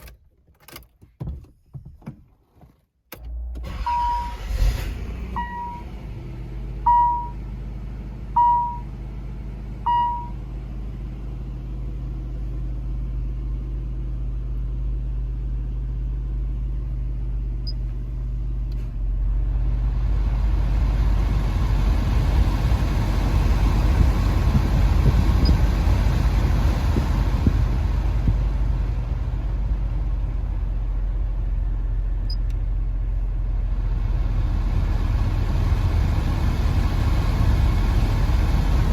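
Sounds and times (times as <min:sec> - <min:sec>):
car engine humming: 0:03.2 - 0:38.9.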